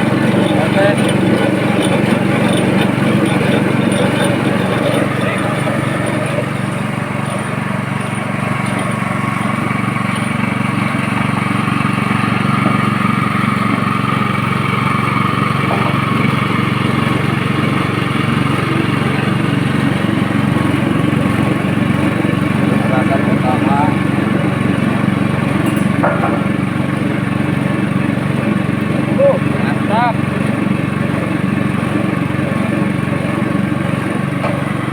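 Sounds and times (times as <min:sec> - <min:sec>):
machine motor drone: 0:00.0 - 0:34.9.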